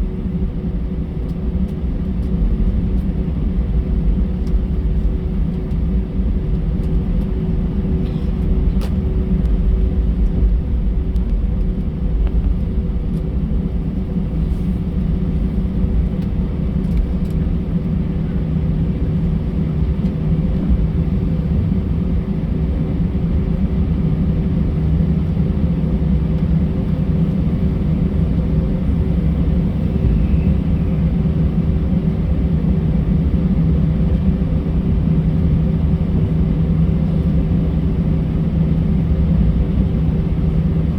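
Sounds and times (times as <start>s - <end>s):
jet engines humming at idle: 0.0s - 40.9s
low cabin rumble: 0.0s - 40.9s.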